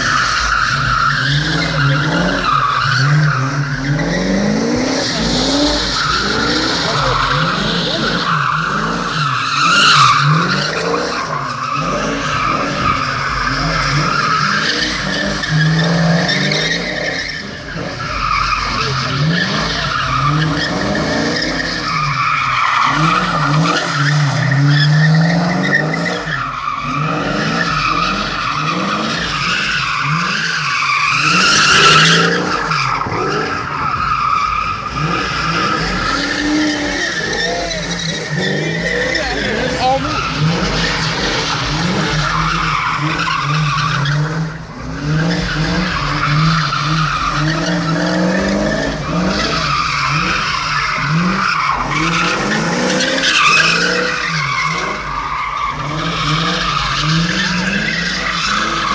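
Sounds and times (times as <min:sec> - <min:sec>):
car engine revving: 0:00.0 - 0:58.9
tyres squealing: 0:00.0 - 0:58.9.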